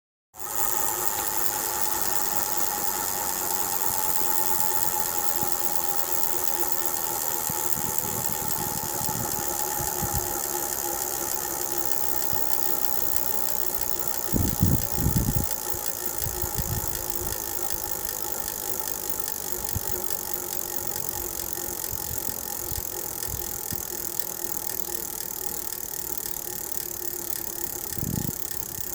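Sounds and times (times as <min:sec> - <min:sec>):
bicycle drivetrain ticking: 0:00.4 - 0:28.9.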